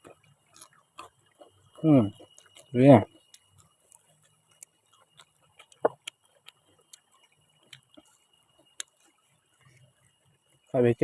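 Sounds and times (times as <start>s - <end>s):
crunching raw vegetables: 0.0s - 10.7s.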